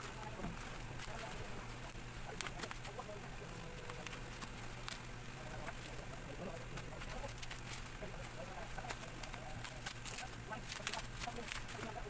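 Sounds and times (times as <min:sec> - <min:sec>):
plastic rustling: 0:00.0 - 0:12.0
scissors snipping bubble wrap: 0:00.0 - 0:12.0.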